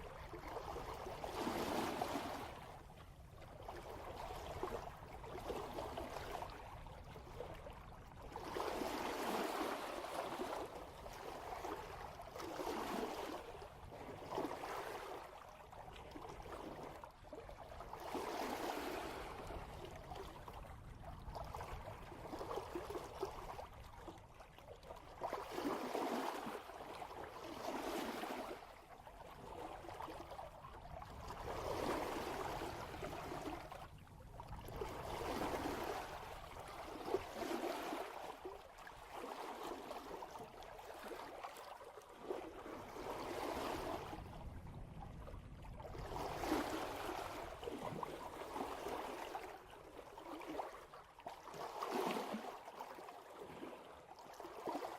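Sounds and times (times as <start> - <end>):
water rushing along boat hull: 0.0 - 45.0, 45.6 - 54.9.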